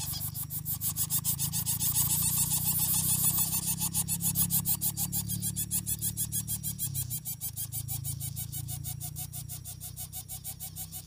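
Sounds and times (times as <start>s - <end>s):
nestling begging squeaks: 0.0s - 11.0s.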